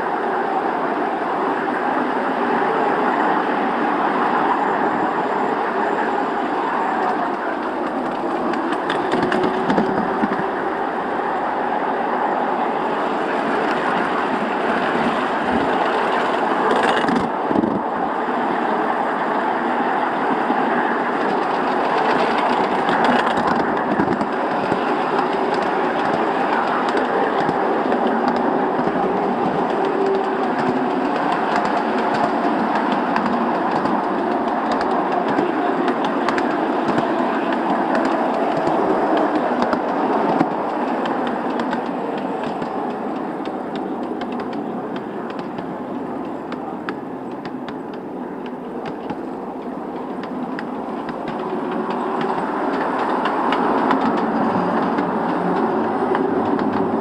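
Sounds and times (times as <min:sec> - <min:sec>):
rail joint clicks: 0:00.0 - 0:57.0
train wheels rumbling on rails: 0:00.0 - 0:57.0.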